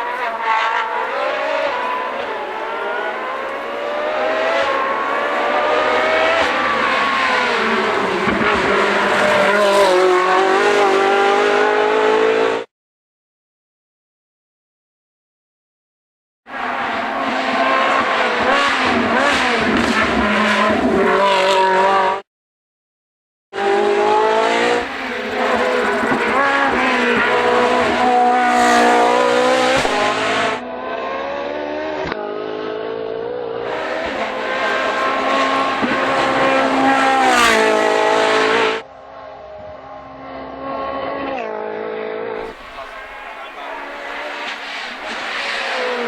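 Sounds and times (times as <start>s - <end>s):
racing engine at high revs: 0.0s - 12.7s, 16.5s - 22.2s, 23.6s - 46.0s.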